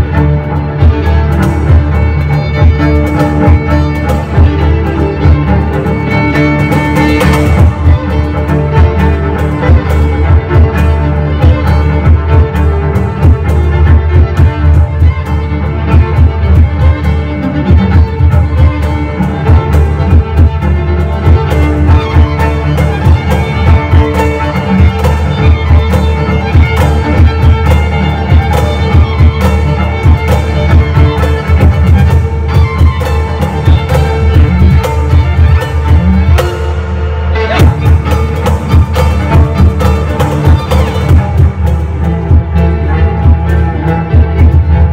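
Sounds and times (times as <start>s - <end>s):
bowed cello: 0.0s - 44.9s
violin melody: 0.0s - 44.9s.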